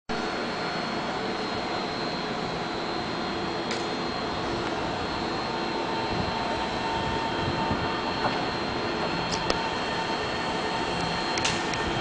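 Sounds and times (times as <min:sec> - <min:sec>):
electric train hum and hiss: 0:00.1 - 0:12.0.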